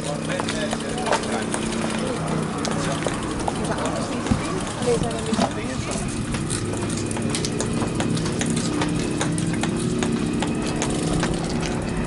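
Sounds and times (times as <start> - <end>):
bicycle freewheel ticking: 0.0 - 12.0.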